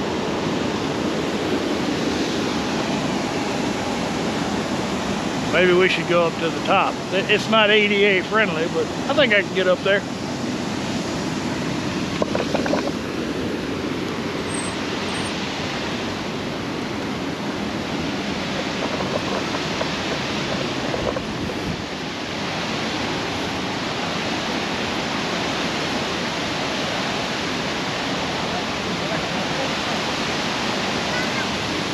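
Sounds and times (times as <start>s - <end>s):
water rushing over rocks: 0.0s - 31.9s.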